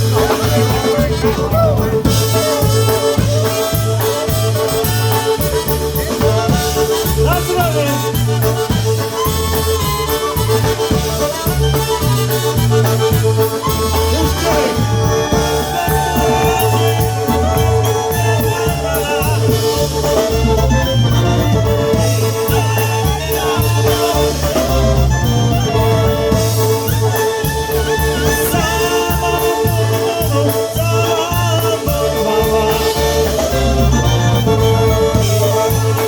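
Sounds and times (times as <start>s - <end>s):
polka band playing: 0.0s - 36.0s.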